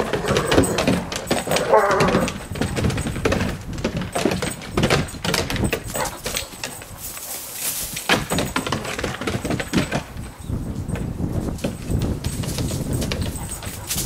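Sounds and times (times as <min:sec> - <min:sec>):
dog paws clattering on wooden deck: 0:00.0 - 0:14.0.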